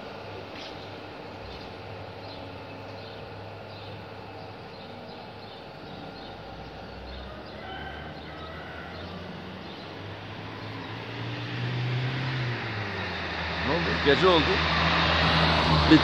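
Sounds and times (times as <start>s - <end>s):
distant traffic hum: 0.0s - 16.0s
birds chirping: 0.1s - 14.6s.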